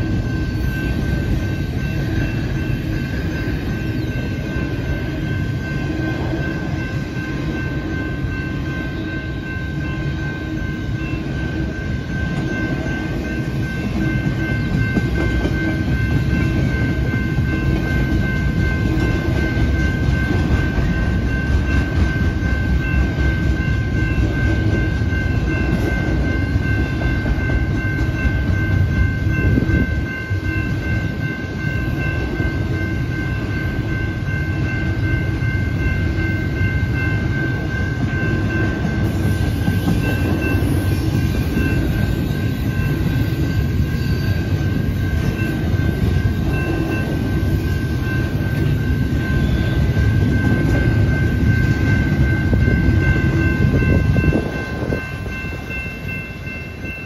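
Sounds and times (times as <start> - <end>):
high-pitched ringing tone: 0.0 - 57.0
train wheels rumbling on rails: 0.0 - 57.0.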